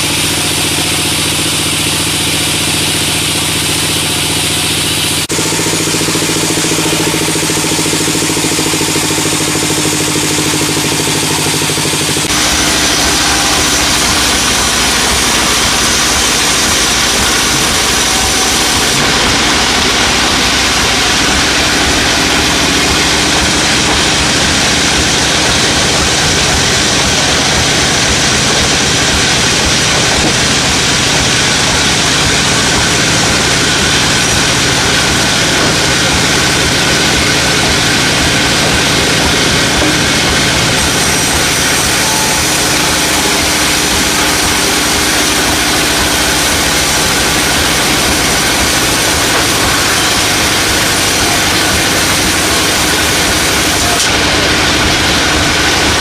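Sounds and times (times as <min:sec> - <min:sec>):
engine idling: 0:00.0 - 0:56.0
loud noisy machine: 0:00.0 - 0:56.0.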